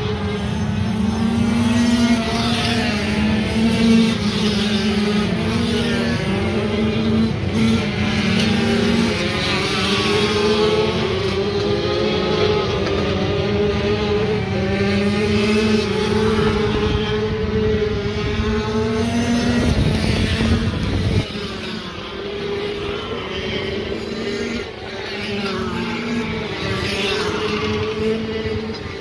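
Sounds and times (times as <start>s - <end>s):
racing motorcycle engines revving: 0.0s - 29.0s.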